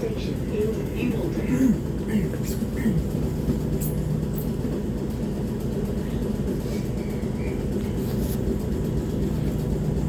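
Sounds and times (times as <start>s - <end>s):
train rumbling inside carriage: 0.0s - 10.0s.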